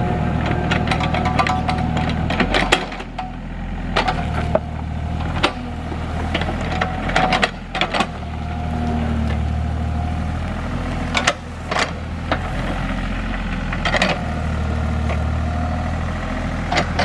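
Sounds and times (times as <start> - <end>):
excavator diesel engine under load: 0.0 - 17.0.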